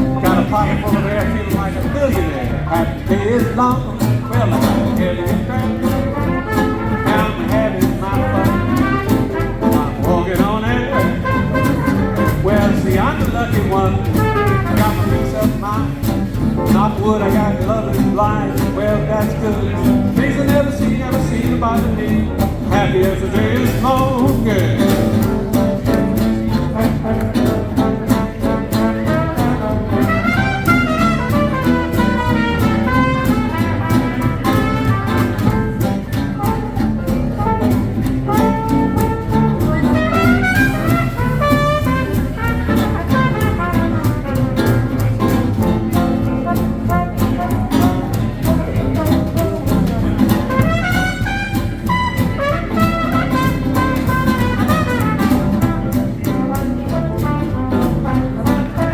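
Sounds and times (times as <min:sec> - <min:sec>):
swing jazz band playing: 0:00.0 - 0:58.9.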